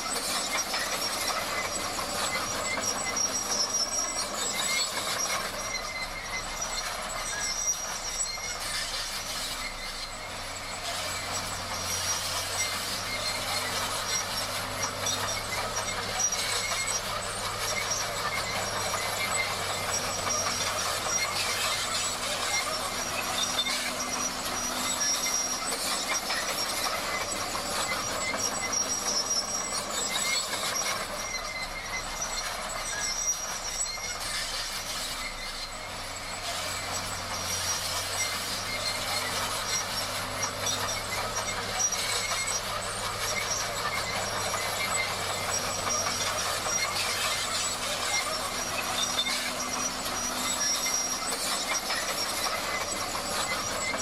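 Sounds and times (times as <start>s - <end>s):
low diesel engine drone: 0.0s - 54.0s
steel tracks squealing and clattering: 0.0s - 54.0s.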